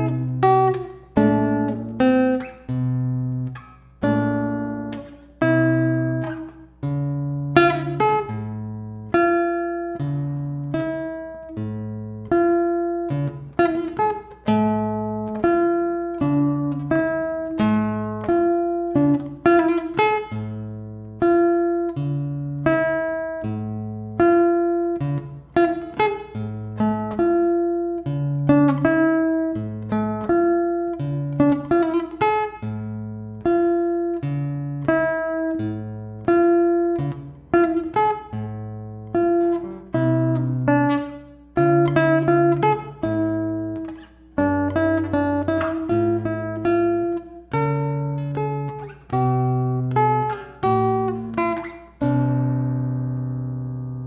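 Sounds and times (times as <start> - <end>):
fingerpicked acoustic guitar: 0.0 - 54.0.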